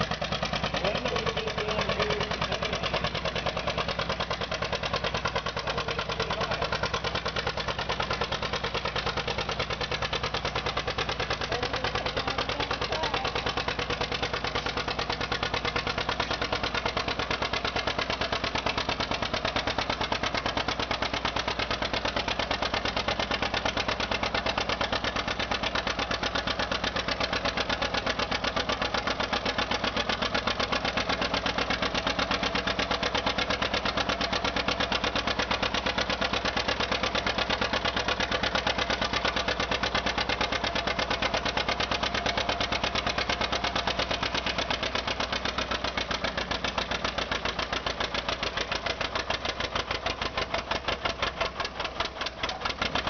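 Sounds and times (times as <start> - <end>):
tractor engine pulsing exhaust: 0.0 - 53.0.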